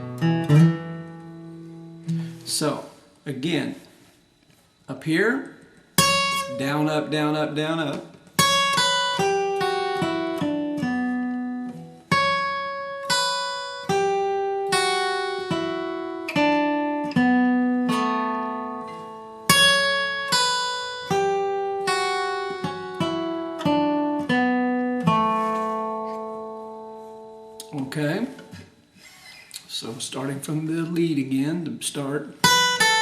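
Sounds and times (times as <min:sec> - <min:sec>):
acoustic guitar lead lines: 0:00.0 - 0:33.0.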